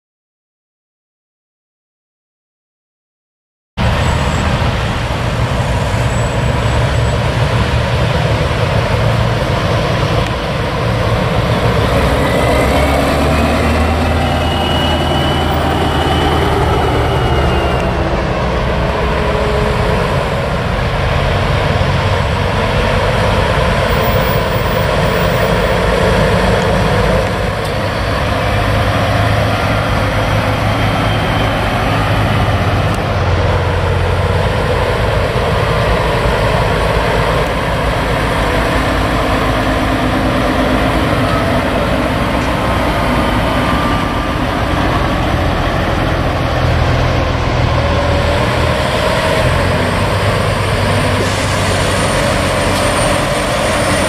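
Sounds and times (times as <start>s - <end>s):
truck and car engine rumble: 3.8s - 54.0s.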